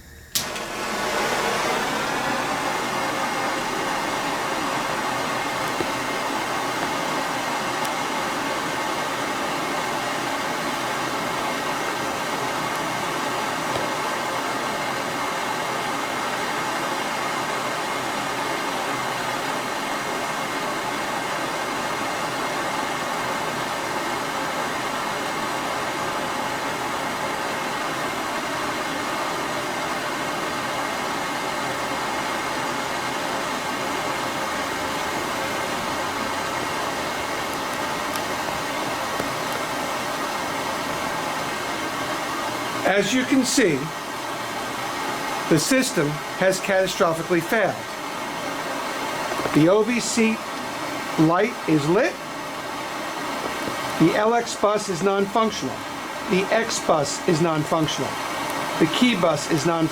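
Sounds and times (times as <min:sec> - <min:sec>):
flame hissing rush: 0:00.0 - 0:59.9.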